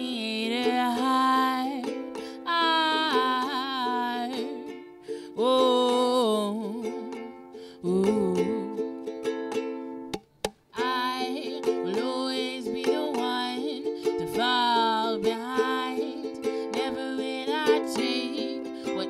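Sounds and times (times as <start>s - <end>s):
woman singing: 0.0s - 9.1s, 10.8s - 19.0s
ukulele strumming: 0.0s - 19.0s.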